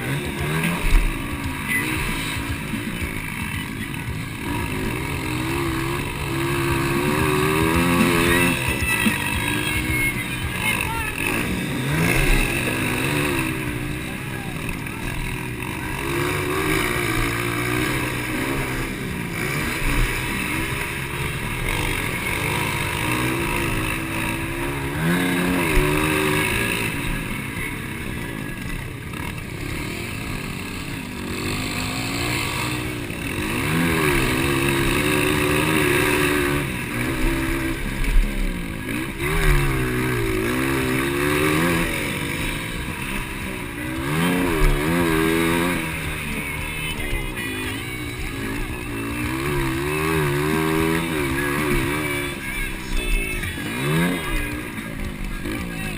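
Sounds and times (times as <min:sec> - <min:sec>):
motocross bikes revving: 0:00.0 - 0:55.9.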